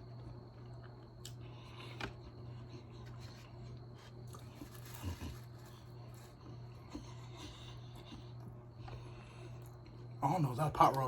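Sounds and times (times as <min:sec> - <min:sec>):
close-up chewing: 0:00.0 - 0:10.2
steady low hum: 0:00.0 - 0:11.0.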